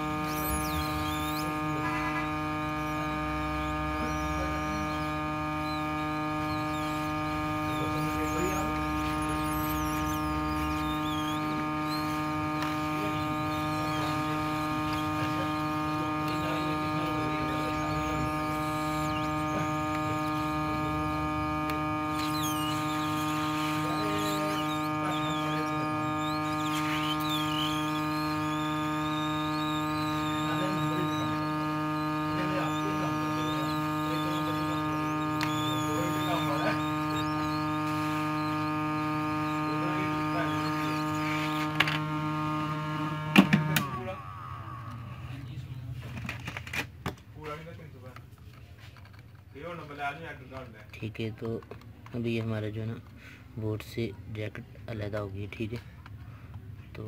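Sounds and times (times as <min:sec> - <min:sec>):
hot air station blowing: 0:00.0 - 0:45.9
electrical hum: 0:00.0 - 0:57.0.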